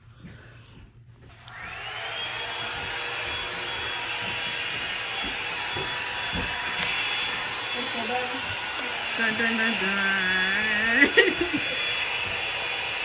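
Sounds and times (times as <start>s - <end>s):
hair dryer motor whine: 1.3s - 13.0s
hair dryer air rushing: 1.4s - 13.0s.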